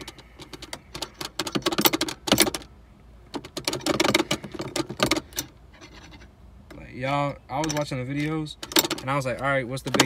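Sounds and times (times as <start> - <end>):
shift lever rattling and clicking: 0.0 - 2.7, 3.3 - 5.5, 6.7 - 10.0.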